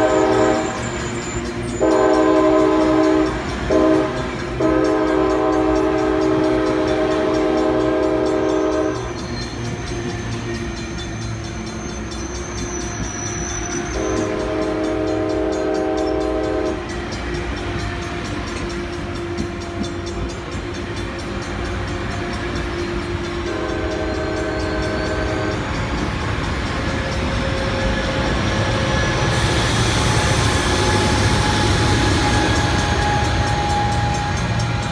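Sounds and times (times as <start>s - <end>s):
train horn blasts: 0.0s - 10.4s, 11.8s - 34.9s
locomotive engine rumble: 0.0s - 34.9s
train wheels rumbling: 0.0s - 34.9s.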